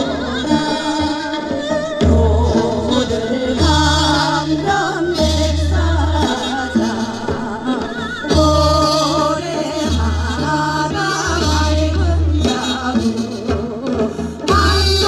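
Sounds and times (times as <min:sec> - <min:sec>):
women singing folk song: 0:00.0 - 0:15.0.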